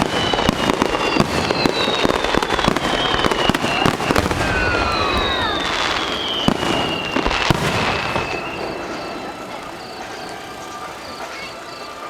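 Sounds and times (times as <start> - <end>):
fireworks crackling: 0.0 - 12.0
fireworks whistling: 0.0 - 12.0
sharp bangs: 0.0 - 12.0.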